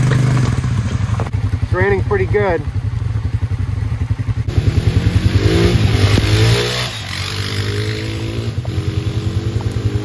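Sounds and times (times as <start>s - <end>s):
atv engines revving: 0.0s - 10.0s.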